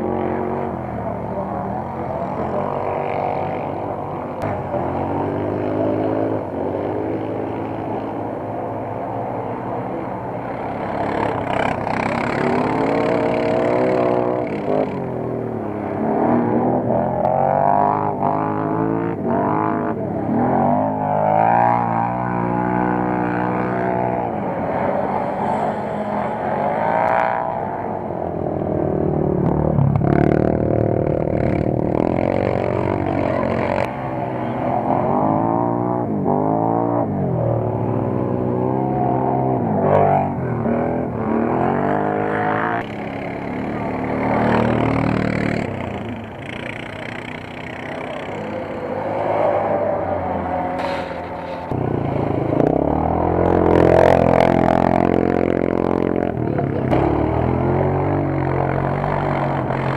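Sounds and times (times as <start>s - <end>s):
off-road engines revving: 0.0s - 59.9s.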